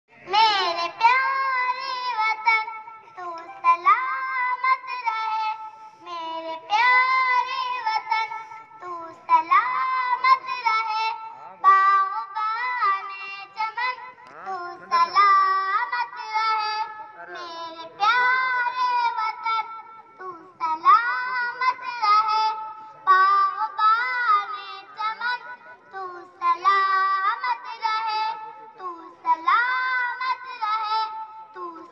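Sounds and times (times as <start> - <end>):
child singing: 0.1 - 31.9.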